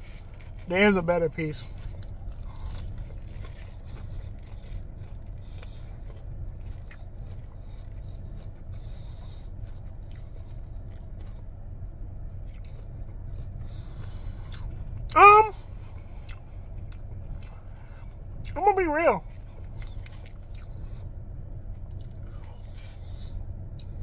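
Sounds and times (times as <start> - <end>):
quiet chewing: 0.0 - 0.7, 1.3 - 18.6, 19.2 - 24.0
low hum inside car: 0.0 - 24.0.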